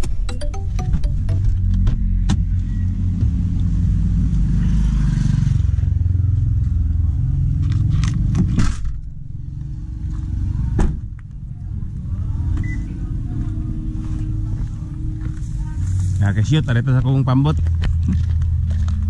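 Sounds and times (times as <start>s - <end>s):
car engine rumble: 1.4s - 19.0s.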